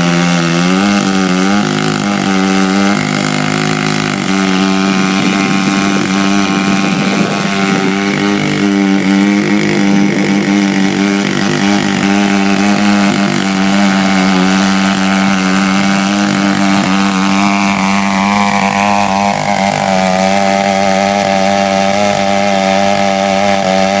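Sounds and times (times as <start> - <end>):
chainsaw running at high revs: 0.0 - 24.0.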